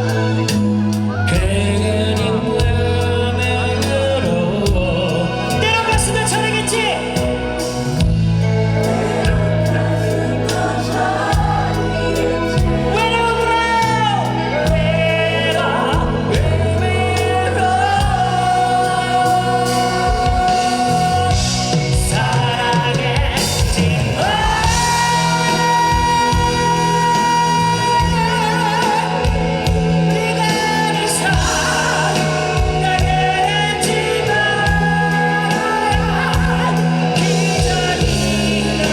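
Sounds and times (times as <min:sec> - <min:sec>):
bass and drums: 0:00.0 - 0:38.9
lead melody with bending notes: 0:00.0 - 0:38.9
rock band playing slow ballad: 0:00.0 - 0:38.9.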